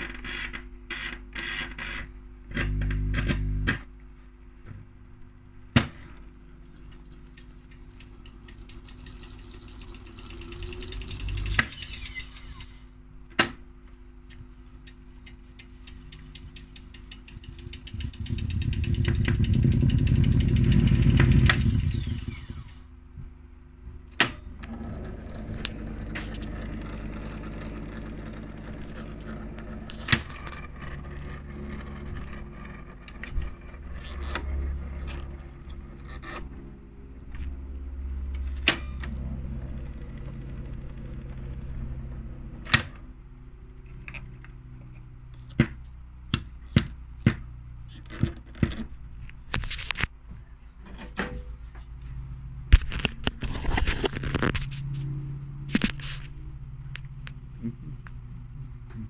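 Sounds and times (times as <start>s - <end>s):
tape recorder motor hum: 0.0s - 5.4s, 6.1s - 50.5s, 51.1s - 59.0s.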